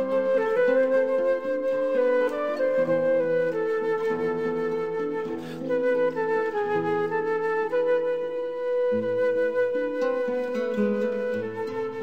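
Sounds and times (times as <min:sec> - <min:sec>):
slow melody of held notes: 0:00.0 - 0:12.0.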